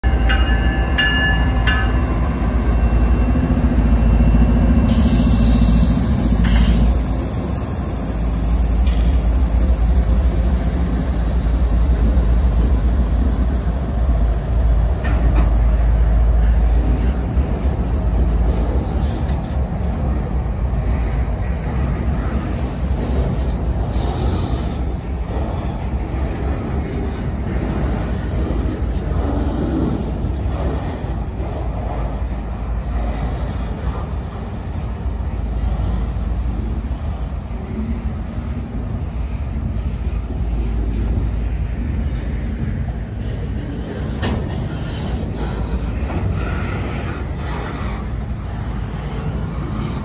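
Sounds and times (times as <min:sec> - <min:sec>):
diesel locomotive engines droning: 0:00.0 - 0:50.0
freight cars rumbling on rails: 0:00.0 - 0:50.0.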